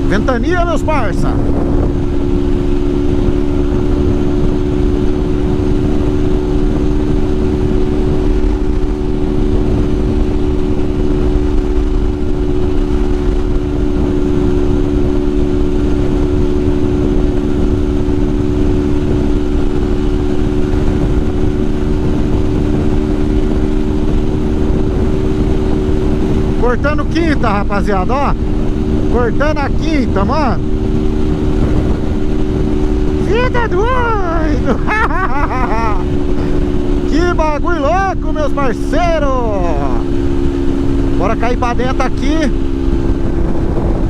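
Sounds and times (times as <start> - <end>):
motorcycle engine at high revs: 0.0 - 44.0
wind rush on microphone: 0.0 - 44.0.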